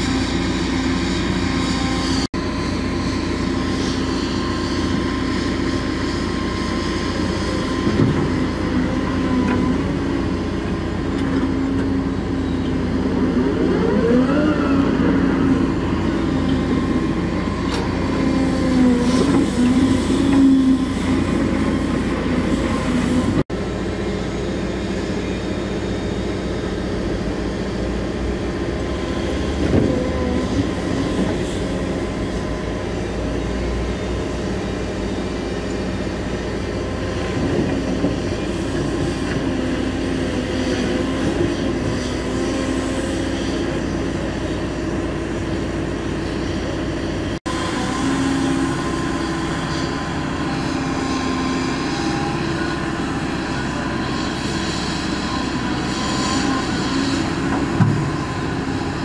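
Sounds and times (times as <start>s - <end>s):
excavator diesel engine running: 0.0s - 59.0s
hydraulic whine: 0.0s - 59.0s.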